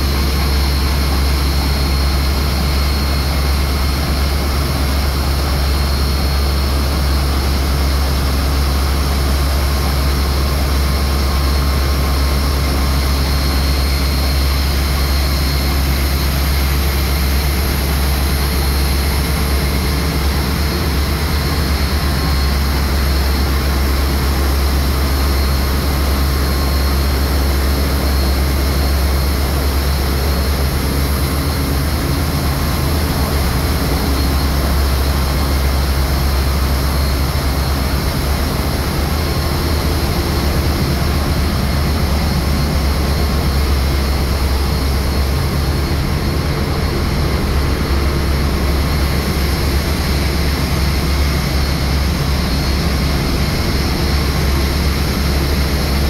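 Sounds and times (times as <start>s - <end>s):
engine room machinery din: 0.0s - 56.0s.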